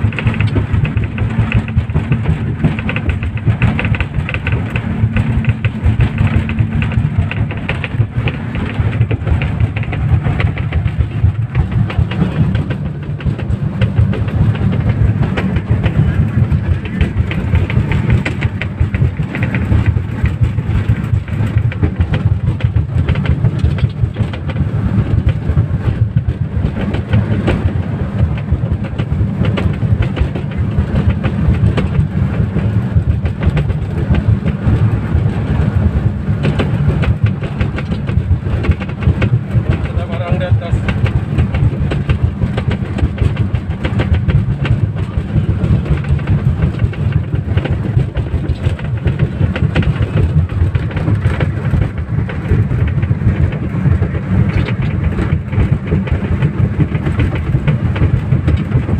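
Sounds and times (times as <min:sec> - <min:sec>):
speedboat engines droning: 0:00.0 - 0:58.9.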